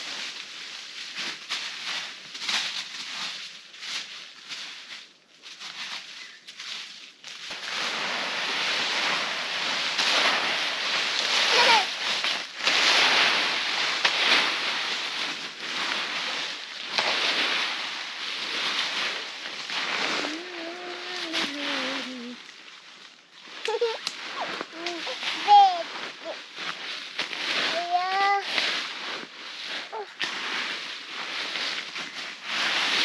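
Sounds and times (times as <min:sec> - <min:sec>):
dry leaves rustling and crackling: 0:00.0 - 0:33.0.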